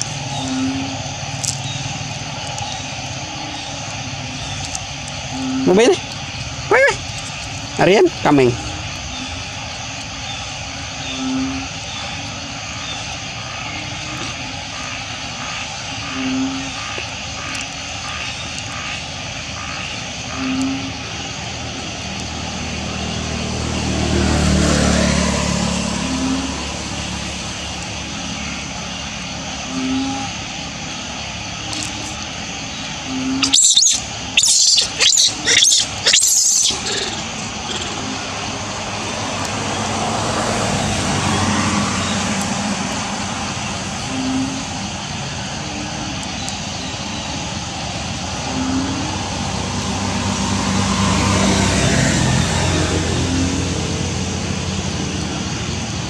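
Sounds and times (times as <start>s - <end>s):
engine-like drone: 0.0s - 56.0s.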